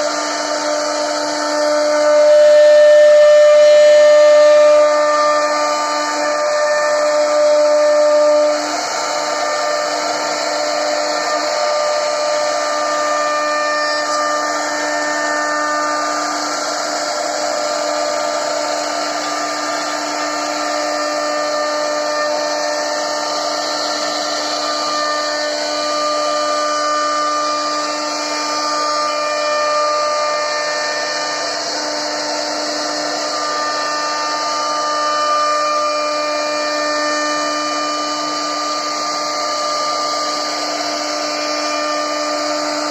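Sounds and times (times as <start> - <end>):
router cutting wood: 0.0 - 42.9
wood router spindle whining: 0.0 - 42.9.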